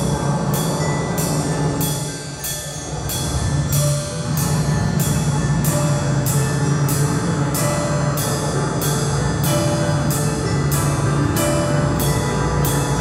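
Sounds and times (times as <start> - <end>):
low steady drone: 0.0 - 13.0
sharp ringing strikes: 0.0 - 13.0.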